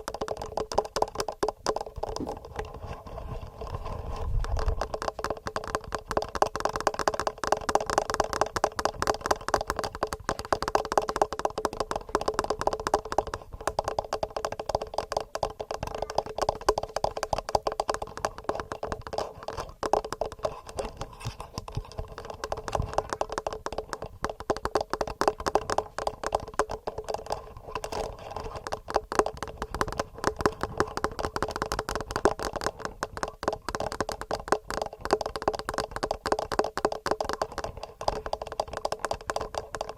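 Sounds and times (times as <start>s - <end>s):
fingernails tapping on microphone: 0.0s - 39.9s.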